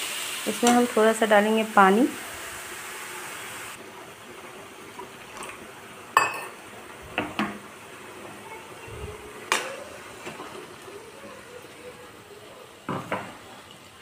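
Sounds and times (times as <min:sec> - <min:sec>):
faint frying sizzle: 0:00.0 - 0:14.0.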